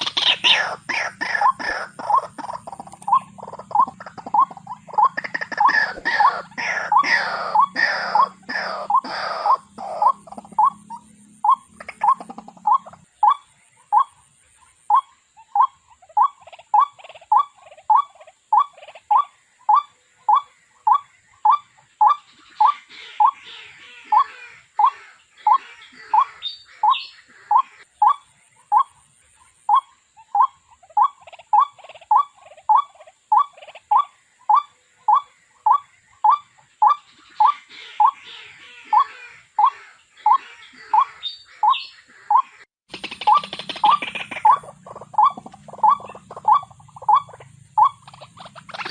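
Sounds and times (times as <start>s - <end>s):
waterhen calling: 0.0s - 48.9s.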